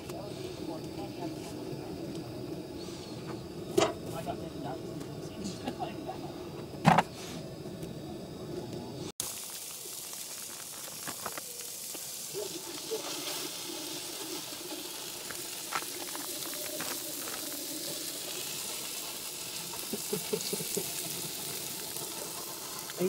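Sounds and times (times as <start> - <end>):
burger sizzling on griddle: 0.0 - 7.6, 9.0 - 23.0.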